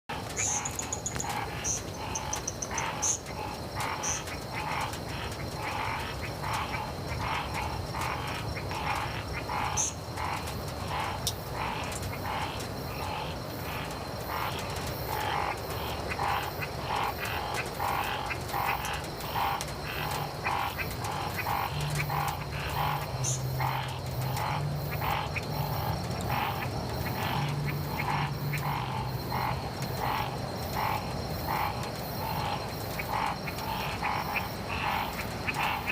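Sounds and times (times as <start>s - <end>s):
tree frogs calling: 0.1s - 35.9s.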